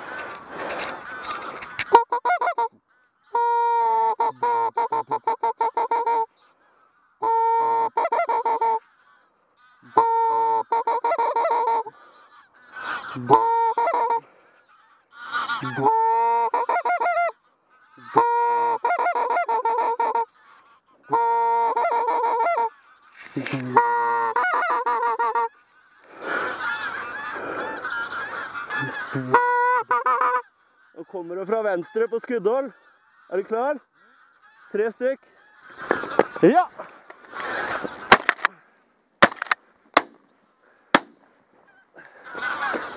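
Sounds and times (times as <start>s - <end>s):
geese honking: 0.0s - 38.5s, 39.2s - 42.9s.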